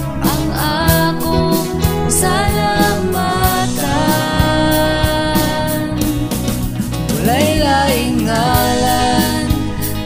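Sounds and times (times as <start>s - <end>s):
person singing: 0.0s - 6.4s, 7.1s - 10.0s
band accompaniment with drums: 0.0s - 10.0s.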